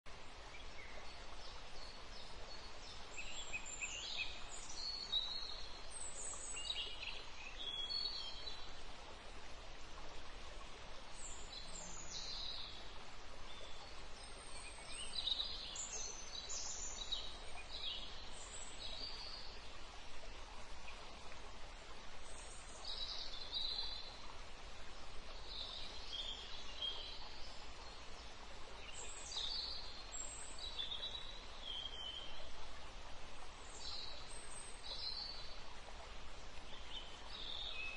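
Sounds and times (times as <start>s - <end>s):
background hiss: 0.1s - 37.9s.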